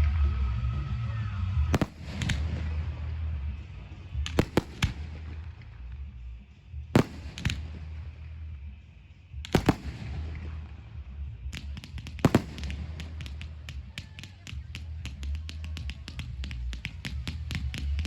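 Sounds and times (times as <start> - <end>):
music playing: 0.0 - 18.0
fireworks bangs: 1.5 - 6.3, 6.9 - 8.8, 9.4 - 18.0
fireworks crackling pops: 1.6 - 18.0.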